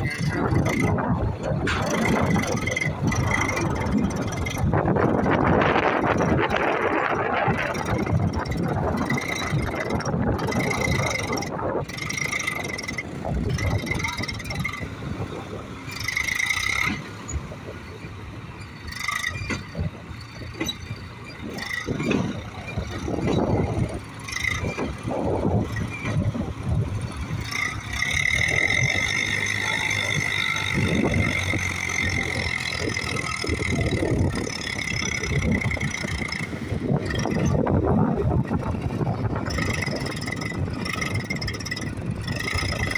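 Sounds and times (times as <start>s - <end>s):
tractor diesel engine labouring: 0.0s - 42.9s.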